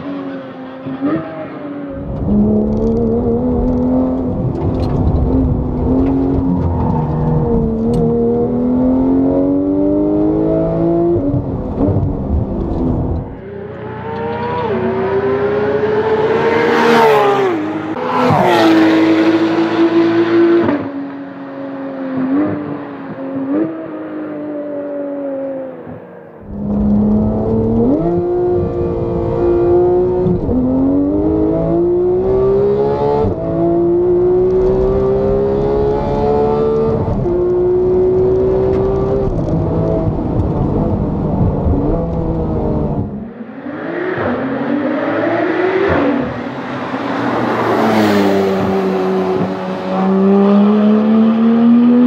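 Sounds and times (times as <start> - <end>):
sports car engine accelerating: 0.0 - 52.0.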